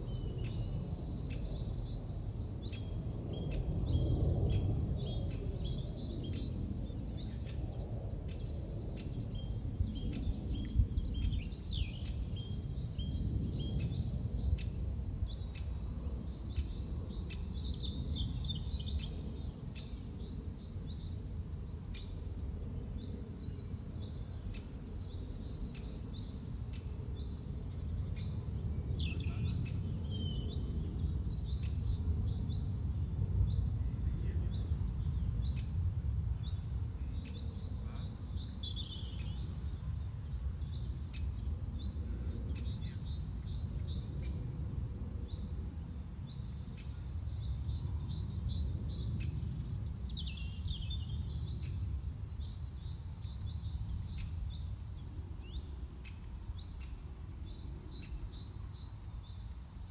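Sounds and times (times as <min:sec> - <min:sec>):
songbirds chirping and singing: 0:00.0 - 0:59.9
steady low rumble: 0:00.0 - 0:59.9.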